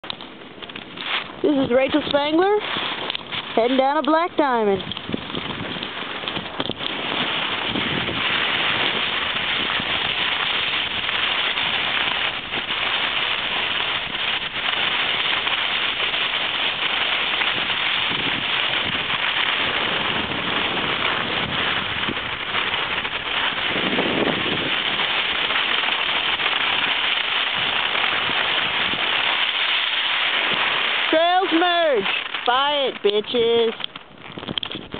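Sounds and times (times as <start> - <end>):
wind buffeting microphone: 0.3 - 34.9
skis scraping over snow: 0.7 - 33.7.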